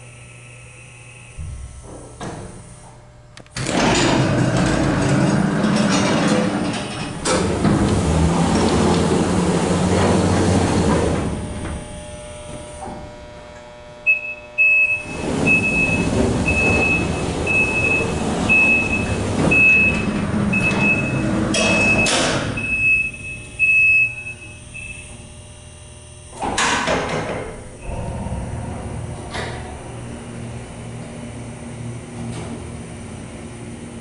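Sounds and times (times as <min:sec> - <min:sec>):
freight elevator settling: 0:01.3 - 0:13.2, 0:14.1 - 0:25.3, 0:26.3 - 0:34.0
elevator doors and gate moving: 0:01.4 - 0:13.1, 0:14.1 - 0:25.3, 0:26.3 - 0:34.0.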